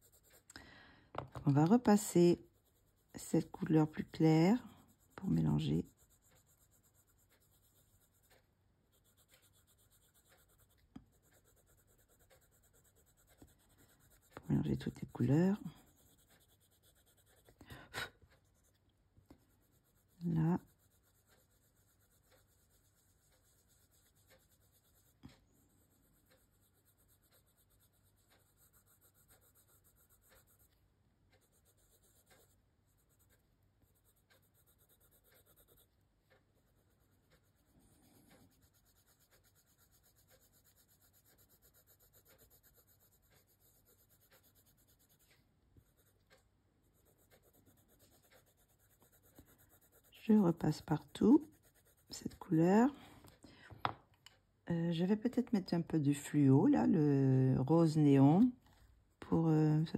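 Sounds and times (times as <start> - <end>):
coloured pencil scratching on paper: 0.0 - 0.5, 1.2 - 53.0.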